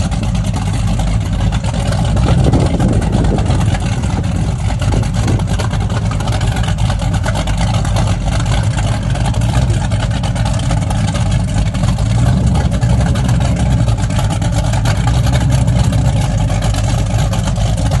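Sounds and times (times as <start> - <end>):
powerboat engines running: 0.0 - 18.0.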